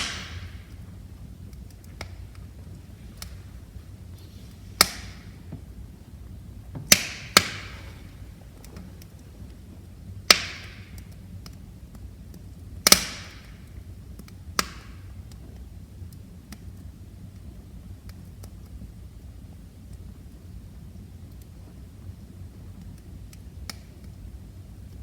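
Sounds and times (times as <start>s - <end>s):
low rumble of flames: 0.0s - 25.0s
small fire ticks: 0.0s - 25.0s
wood fire popping: 0.0s - 25.0s.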